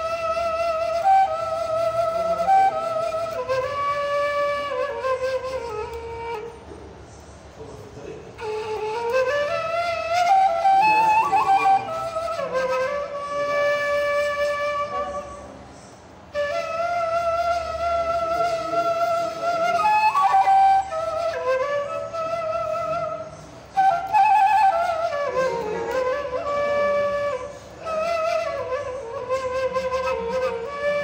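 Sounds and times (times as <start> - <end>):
end-blown cane flute melody: 0.0 - 6.6, 8.4 - 15.6, 16.3 - 31.0.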